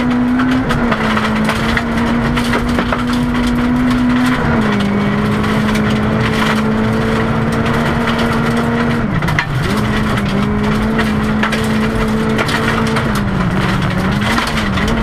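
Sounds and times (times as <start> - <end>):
car engine at high revs: 0.0 - 15.0
gravel rattling against car: 0.0 - 15.0.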